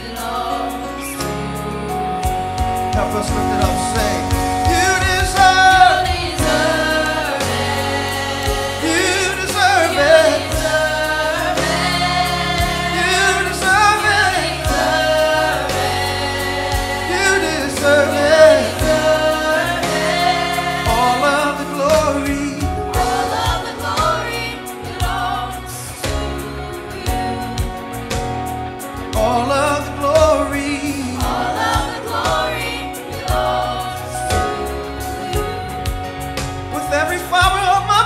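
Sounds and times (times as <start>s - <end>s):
backing band with bass and drums: 0.0s - 38.0s
singers holding sliding notes: 0.0s - 38.0s.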